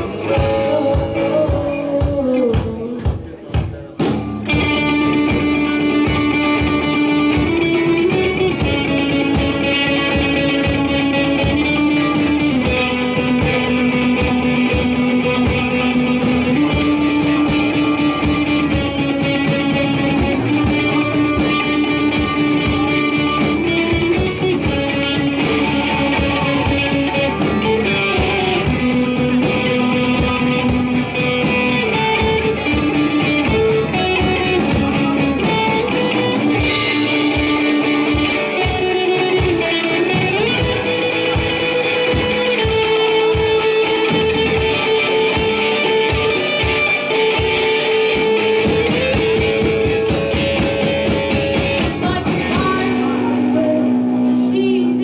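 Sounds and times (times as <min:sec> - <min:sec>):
drums: 0:00.0 - 0:55.0
electric guitars: 0:00.0 - 0:55.0.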